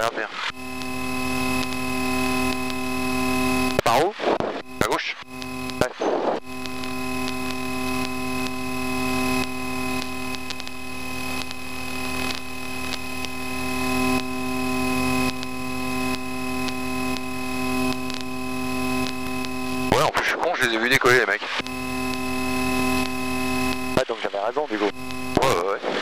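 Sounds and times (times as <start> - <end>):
aircraft engine running: 0.0 - 26.0
electrical hum and hiss: 0.0 - 26.0.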